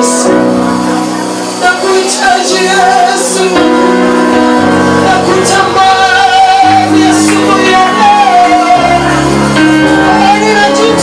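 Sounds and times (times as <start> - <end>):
held instrumental chords: 0.0 - 11.0
people singing worship music: 0.0 - 11.0.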